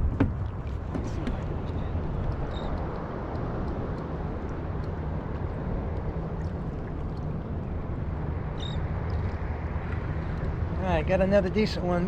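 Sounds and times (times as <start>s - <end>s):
water rushing around kayak: 0.0s - 12.0s.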